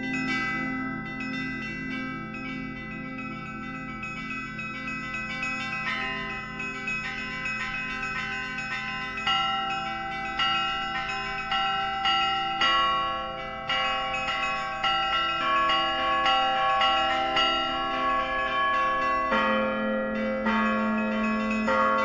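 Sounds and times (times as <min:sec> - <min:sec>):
church bells ringing pattern: 0:00.0 - 0:22.0
deep bell: 0:00.0 - 0:22.0.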